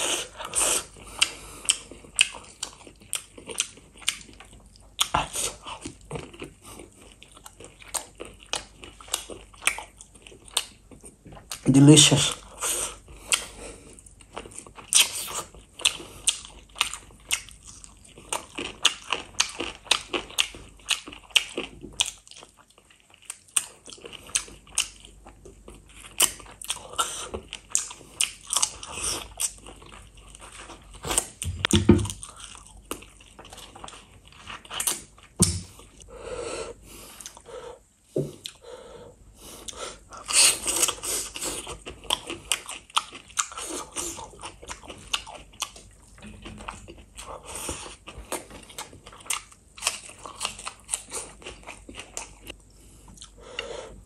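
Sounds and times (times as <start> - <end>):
chewing and crunching: 0.0 - 36.1, 39.4 - 53.7.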